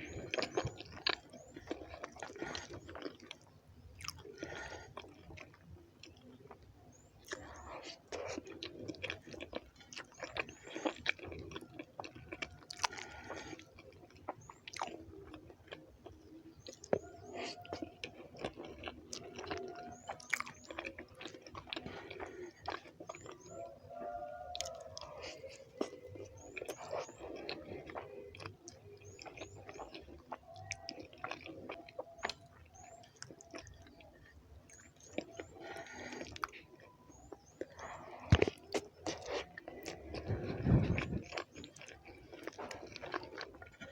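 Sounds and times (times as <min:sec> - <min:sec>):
chewing with wet mouth smacks: 0:00.0 - 0:43.9.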